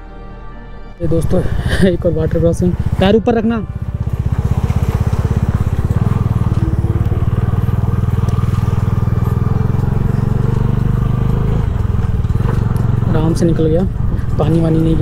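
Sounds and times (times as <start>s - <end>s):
motorcycle engine running: 1.0s - 15.0s.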